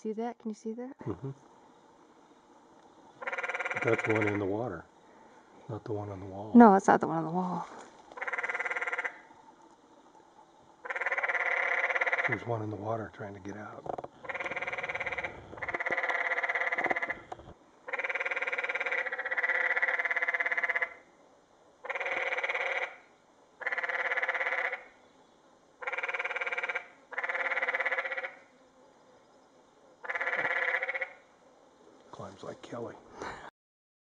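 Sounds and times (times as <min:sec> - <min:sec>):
tree frogs trilling: 0:00.0 - 0:33.2.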